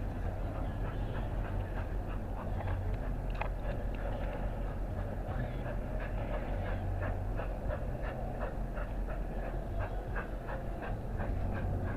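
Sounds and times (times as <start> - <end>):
train running on rails: 0.0 - 11.9.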